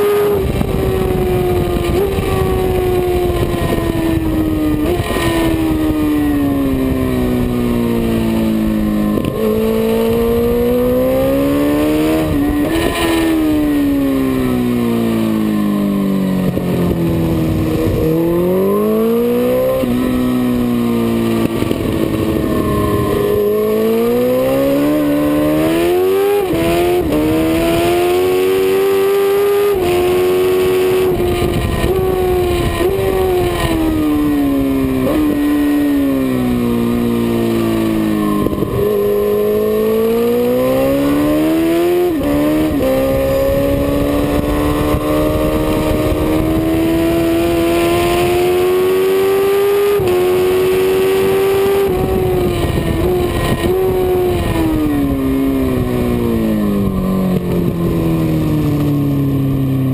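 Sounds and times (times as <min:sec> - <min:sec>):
motorcycle engine at high revs: 0:00.0 - 0:59.9
wind rush: 0:00.2 - 0:14.3, 0:16.5 - 0:36.8, 0:37.9 - 0:59.5.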